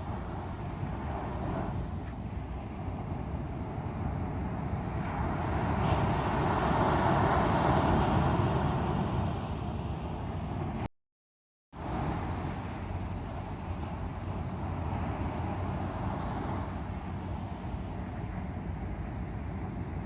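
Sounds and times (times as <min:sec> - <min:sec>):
sea waves breaking on shore: 0:00.0 - 0:10.9, 0:11.8 - 0:20.0.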